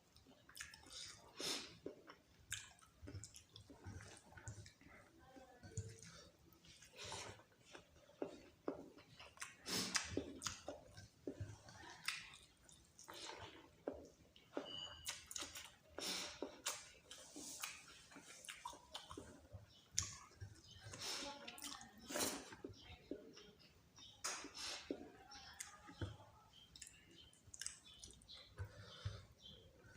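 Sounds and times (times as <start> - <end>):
chewing and wet smacking: 0.0 - 29.9.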